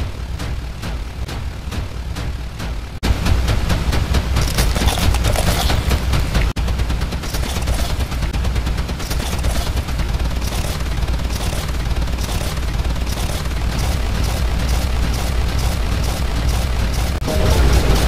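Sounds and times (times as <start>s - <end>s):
distorted wall of noise: 0.0s - 18.0s
heavy bass: 0.0s - 18.0s.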